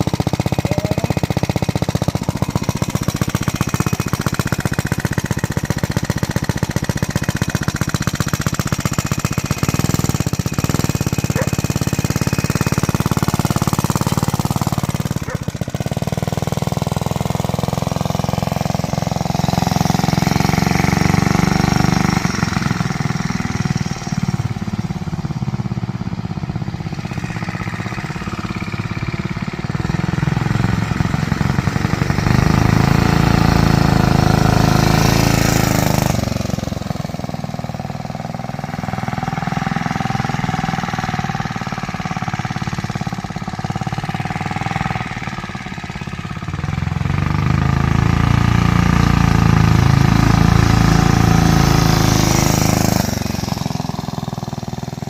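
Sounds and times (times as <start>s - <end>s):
mini bike engine revving: 0.0s - 55.0s.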